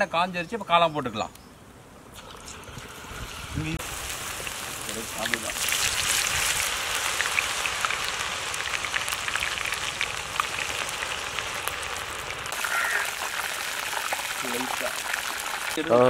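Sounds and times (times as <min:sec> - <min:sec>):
mushrooms sizzling in hot oil: 0:02.5 - 0:16.0.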